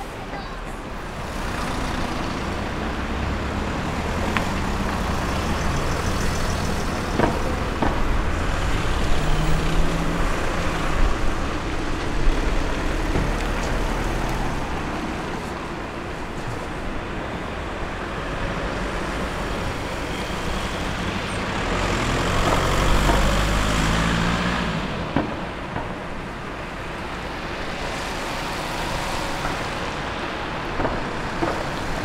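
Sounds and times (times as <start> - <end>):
cars driving past: 0.8 - 32.0.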